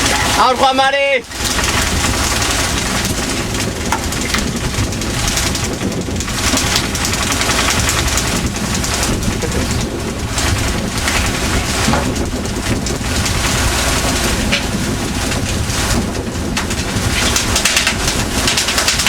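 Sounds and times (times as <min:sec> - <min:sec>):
boat engine running: 0:00.0 - 0:19.0
sea noise: 0:00.0 - 0:19.0
wind rushing: 0:01.5 - 0:17.6.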